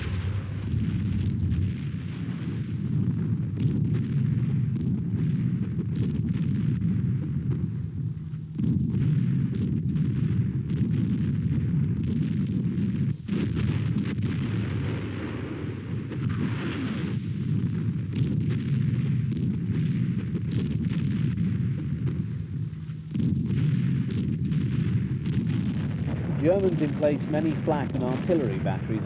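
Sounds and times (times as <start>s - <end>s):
sharp gunfire reports: 0.0s - 7.8s, 8.4s - 29.0s
artillery rumble and explosions: 0.0s - 29.0s.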